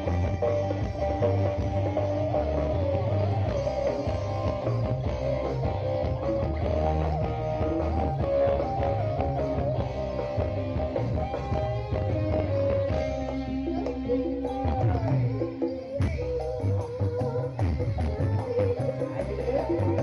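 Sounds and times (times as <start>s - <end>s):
instrumental melody: 0.0s - 20.0s
low bass: 0.0s - 20.0s.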